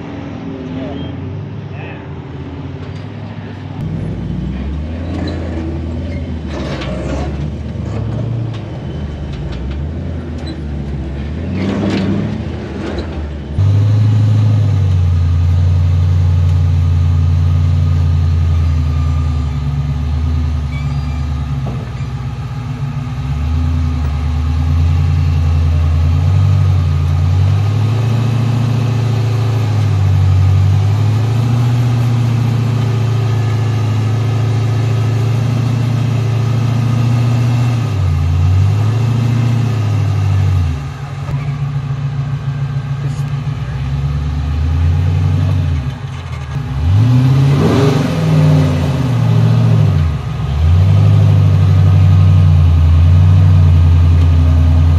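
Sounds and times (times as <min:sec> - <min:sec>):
truck engines running low revs: 0:00.0 - 0:54.9.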